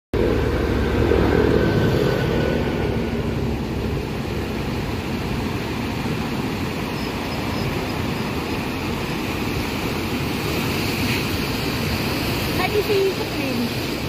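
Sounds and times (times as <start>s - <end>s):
flood water rushing: 0.2s - 14.0s.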